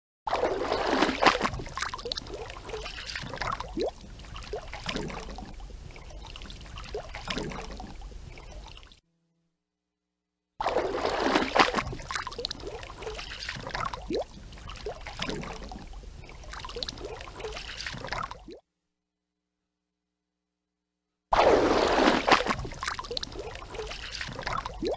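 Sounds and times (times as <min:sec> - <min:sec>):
fish splashing in water: 0:00.3 - 0:09.0, 0:10.6 - 0:18.6, 0:21.4 - 0:24.9.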